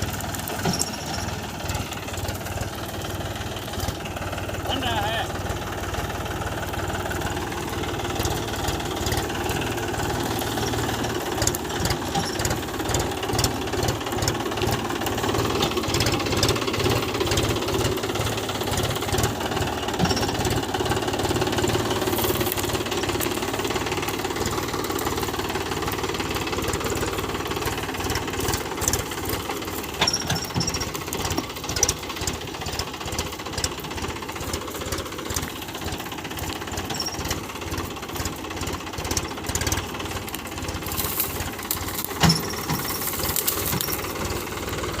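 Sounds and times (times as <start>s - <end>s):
diesel tractor engine clattering: 0.0s - 45.0s.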